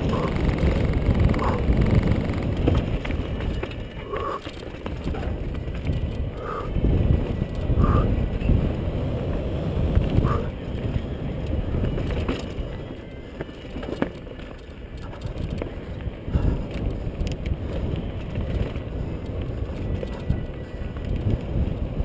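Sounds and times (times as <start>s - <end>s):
bike knocks and rattles: 0.0s - 6.3s, 9.9s - 22.0s
bike tyres rumbling: 0.0s - 22.0s
wind buffeting microphone: 0.0s - 22.0s.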